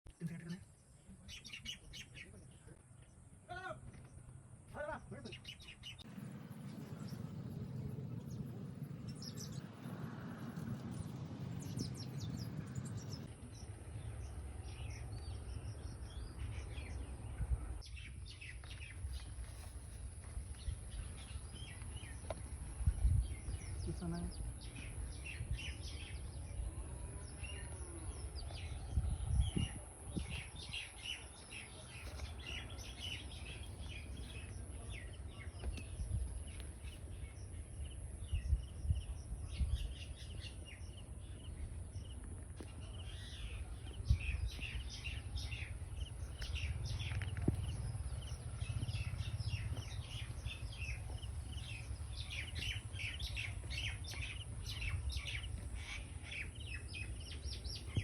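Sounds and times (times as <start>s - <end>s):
birds chirping: 0.1s - 58.0s
low rumbling background: 5.8s - 58.0s.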